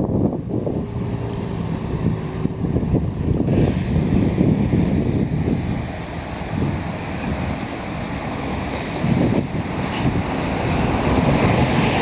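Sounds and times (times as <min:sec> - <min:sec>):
city bus approaching: 0:00.0 - 0:12.0
gusty wind on microphone: 0:00.0 - 0:12.0
street traffic rush: 0:00.0 - 0:12.0.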